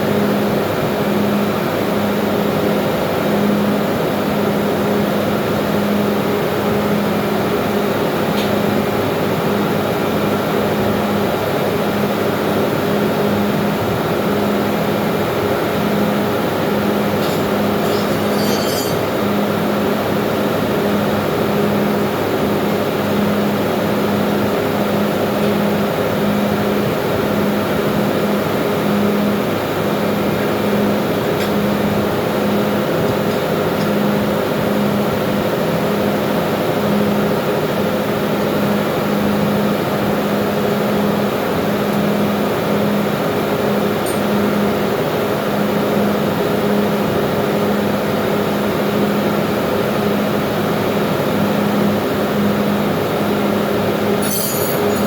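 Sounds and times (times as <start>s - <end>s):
engine room machinery drone: 0.0s - 55.0s.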